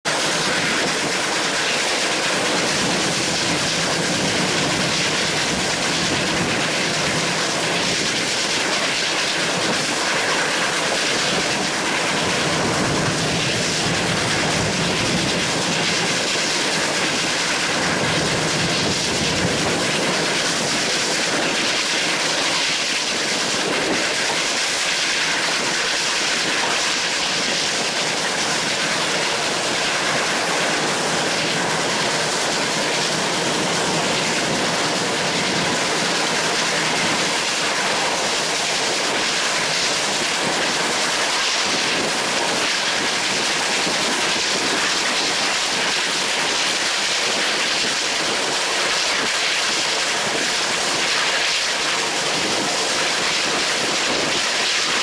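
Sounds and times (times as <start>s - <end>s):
train wheels running on rails: 0.1s - 55.0s.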